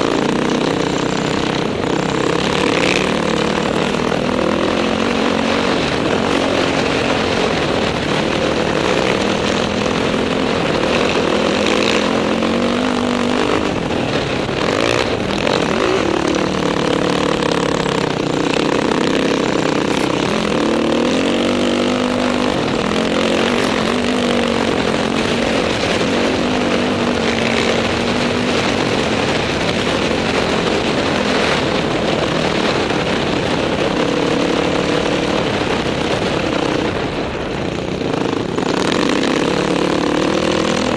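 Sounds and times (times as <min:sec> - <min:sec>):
dirt bike engine revving: 0:00.0 - 0:40.9
wind noise: 0:00.0 - 0:40.9.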